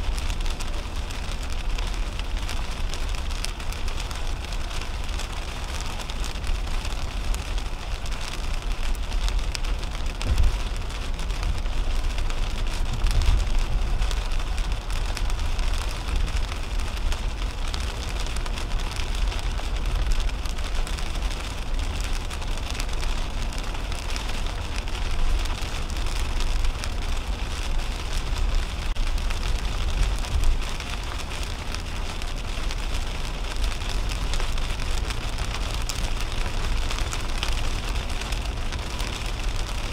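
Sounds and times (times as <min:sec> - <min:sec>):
heavy rain on car windshield: 0:00.0 - 0:39.9
tyres rumbling on wet road: 0:00.0 - 0:39.9.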